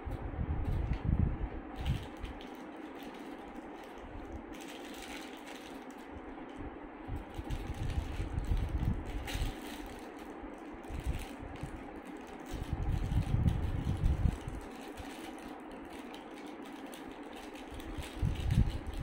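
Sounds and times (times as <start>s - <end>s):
steady background hum: 0.0s - 19.0s
plastic wrappers crinkling and tearing: 1.8s - 6.1s, 7.2s - 19.0s.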